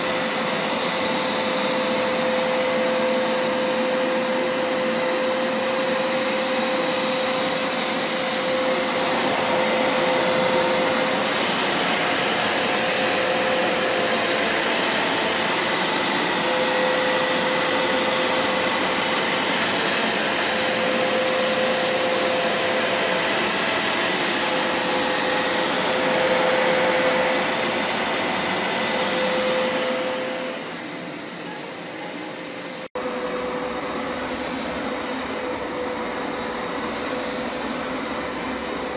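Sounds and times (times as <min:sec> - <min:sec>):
carpet washer running: 0:00.0 - 0:38.9.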